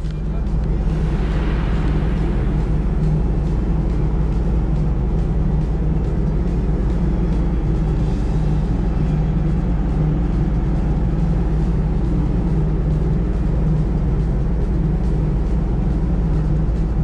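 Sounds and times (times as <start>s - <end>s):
ship engines rumbling: 0.0s - 17.0s.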